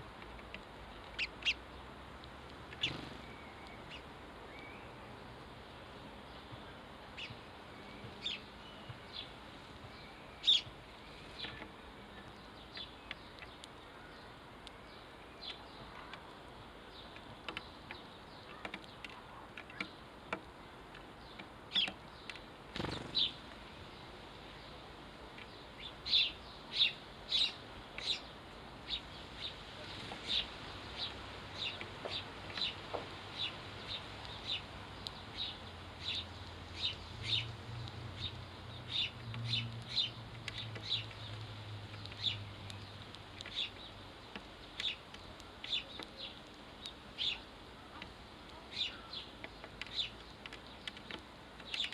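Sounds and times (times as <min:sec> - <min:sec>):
sparrows chirping: 0:00.3 - 0:02.0, 0:02.6 - 0:51.9.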